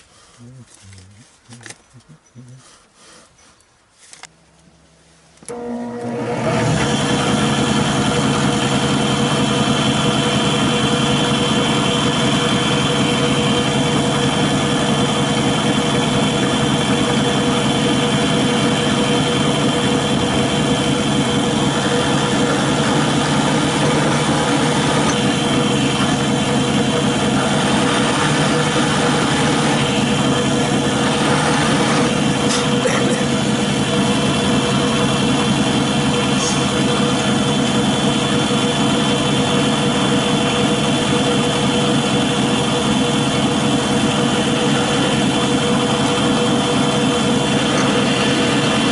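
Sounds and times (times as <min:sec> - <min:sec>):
drill press motor humming: 0:05.4 - 0:48.9.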